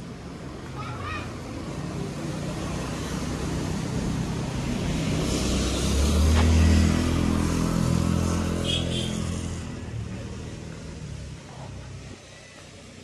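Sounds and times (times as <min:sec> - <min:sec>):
tyres hissing on road: 0:00.0 - 0:13.0
vehicle engine passing by: 0:01.5 - 0:12.2.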